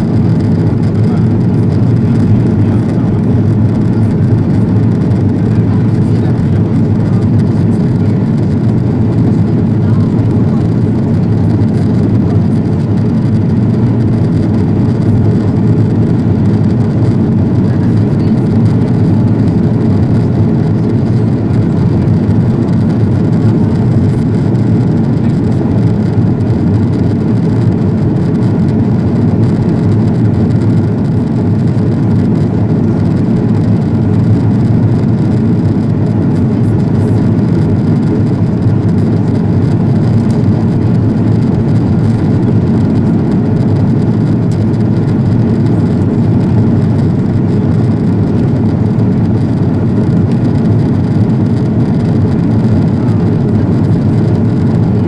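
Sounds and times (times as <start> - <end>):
airliner cabin roar: 0.0 - 55.0.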